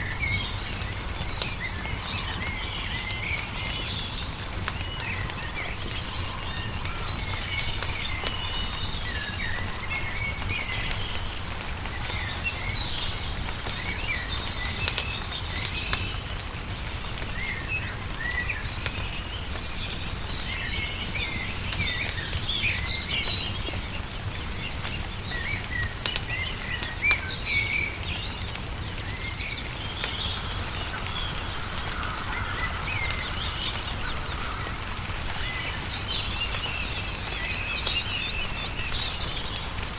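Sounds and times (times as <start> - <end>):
songbirds chirping: 0.0 - 39.9
wood fire crackling and popping: 0.0 - 39.9.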